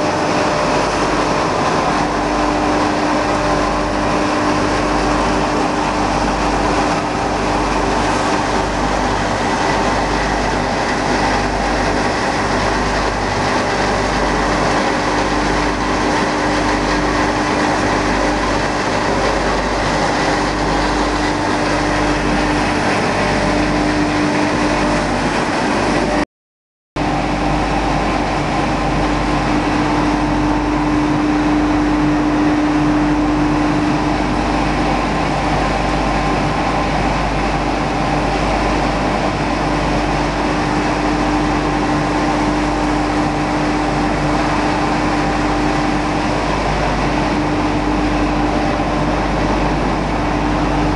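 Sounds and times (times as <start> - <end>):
factory machinery running: 0.0 - 26.2, 27.0 - 50.9.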